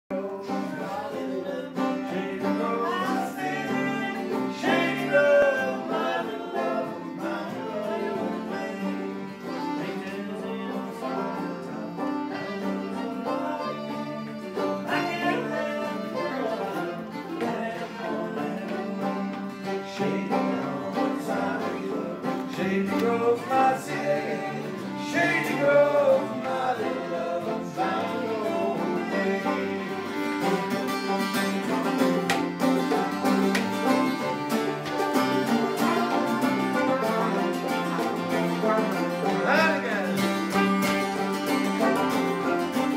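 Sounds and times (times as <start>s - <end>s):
fiddle playing tune: 0.1s - 42.9s
strummed acoustic and electric guitars: 0.1s - 42.9s.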